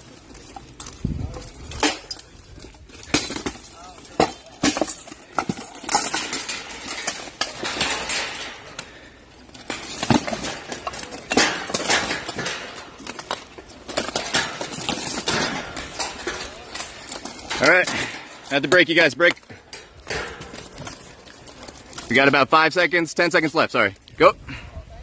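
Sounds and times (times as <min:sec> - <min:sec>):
metal armor clanging: 0:00.5 - 0:22.5.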